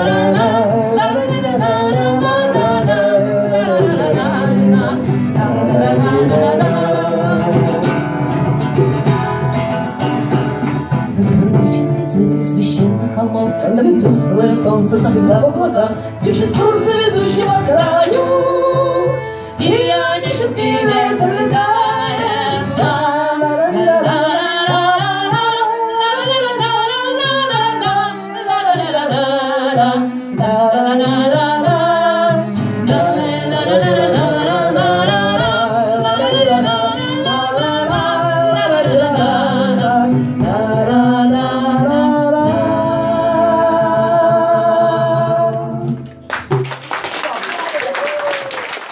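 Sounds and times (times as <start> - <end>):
person singing: 0.0 - 8.3, 11.1 - 46.0
guitar accompaniment: 0.0 - 48.9.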